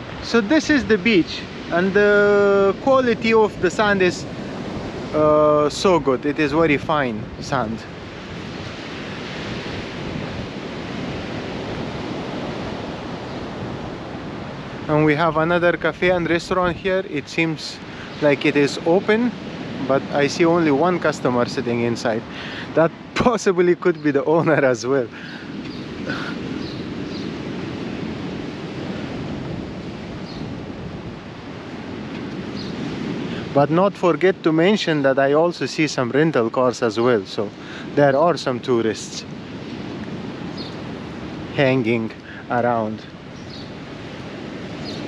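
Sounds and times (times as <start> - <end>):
wind on microphone: 0.0 - 34.8, 37.1 - 45.0
surf washing onto beach: 0.0 - 45.0.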